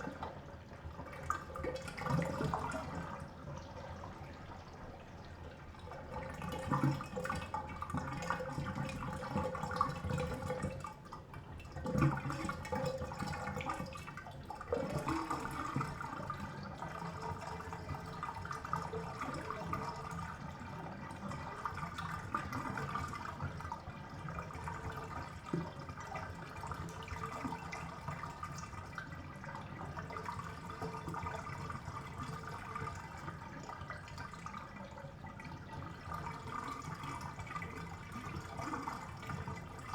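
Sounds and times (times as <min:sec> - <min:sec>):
bathtub water gurgling down drain: 0:00.0 - 0:39.9.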